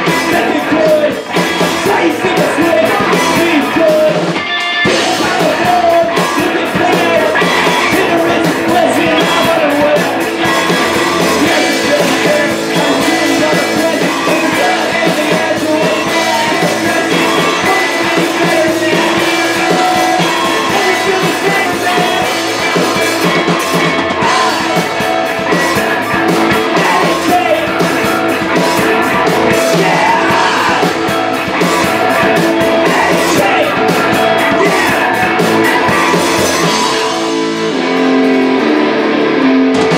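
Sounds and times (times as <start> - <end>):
drum kit: 0.0 - 39.9
electric bass: 0.0 - 39.9
electric guitars: 0.0 - 39.9
person singing into a microphone: 0.0 - 39.9.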